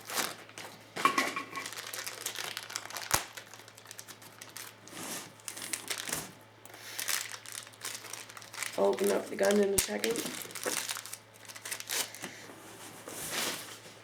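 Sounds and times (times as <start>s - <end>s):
packaging crinkling: 0.0s - 12.5s.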